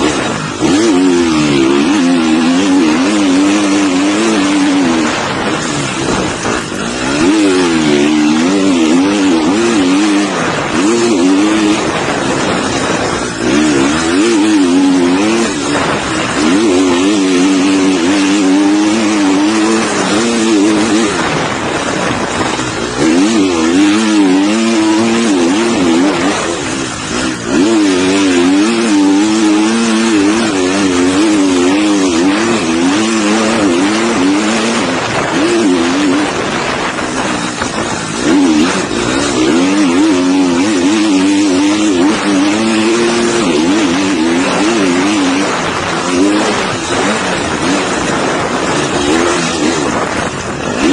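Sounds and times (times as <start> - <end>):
motocross bike engine revving: 0.0 - 50.9
wind noise: 0.0 - 50.9.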